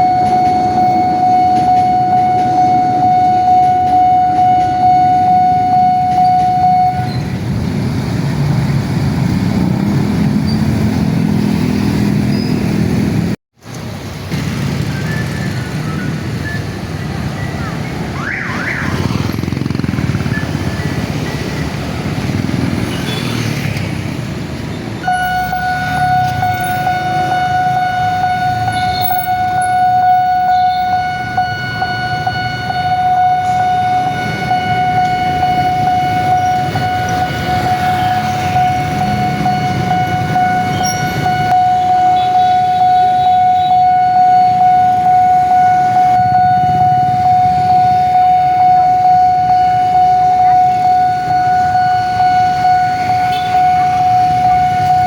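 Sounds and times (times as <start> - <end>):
level crossing warning siren: 0.0 - 12.2, 15.5 - 55.0.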